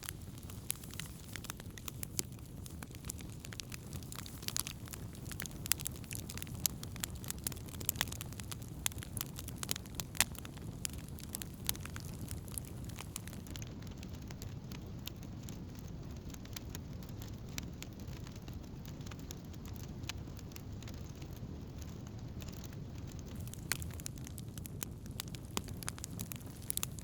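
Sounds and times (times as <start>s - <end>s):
campfire crackling and popping: 0.0s - 27.0s
low rush of fire: 0.0s - 27.0s.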